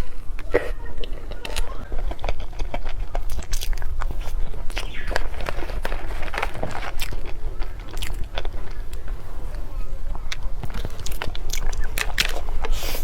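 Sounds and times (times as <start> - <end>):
person chewing cake: 0.0 - 13.0.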